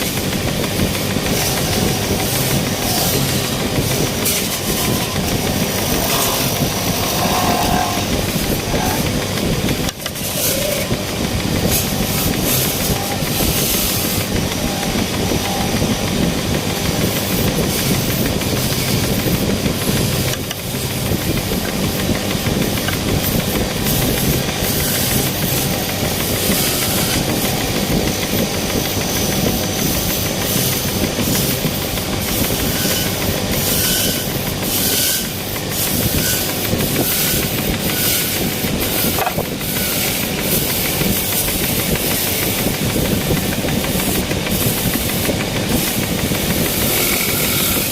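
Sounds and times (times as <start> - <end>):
tool clicking on wood: 0.0 - 47.9
wood lathe shaving wood: 0.0 - 47.9.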